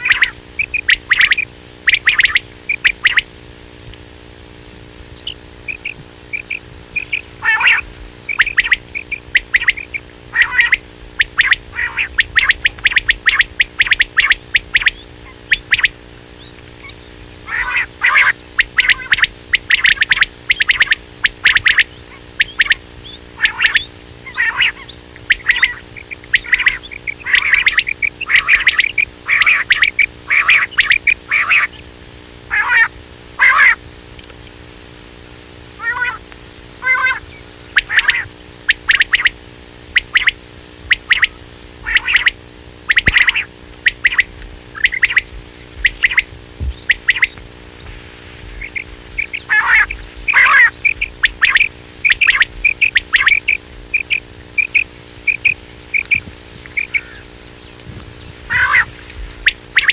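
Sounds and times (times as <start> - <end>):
quail calling: 0.0 - 3.4, 4.7 - 34.6, 35.7 - 59.9
faint low hum: 0.0 - 59.9.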